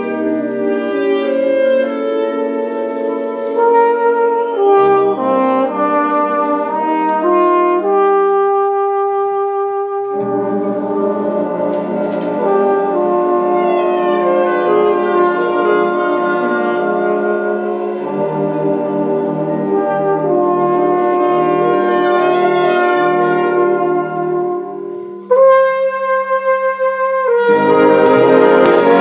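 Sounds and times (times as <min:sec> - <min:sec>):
flugelhorn playing slow melody: 0:00.0 - 0:29.0
musical accompaniment: 0:00.0 - 0:29.0.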